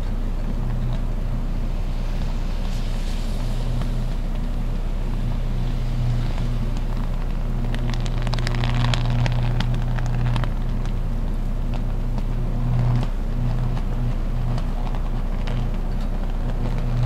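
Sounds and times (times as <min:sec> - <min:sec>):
electrical arc low hum: 0:00.0 - 0:17.0
electrical crackles and snaps: 0:00.0 - 0:17.0.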